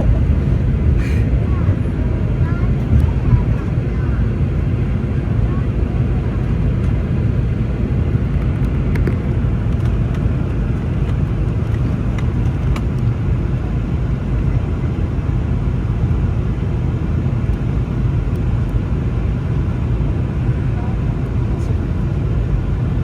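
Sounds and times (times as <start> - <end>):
aircraft cabin engine roar: 0.0 - 23.0.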